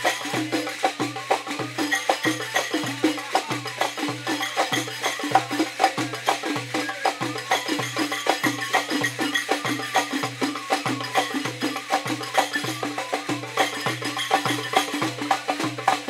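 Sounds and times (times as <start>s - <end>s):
hand drums beating a rhythm: 0.0s - 16.0s.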